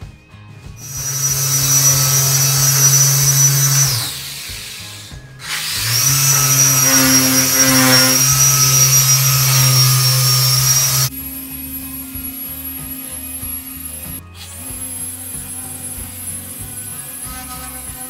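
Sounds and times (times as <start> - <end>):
electric polisher humming and whining: 0.8 - 18.0.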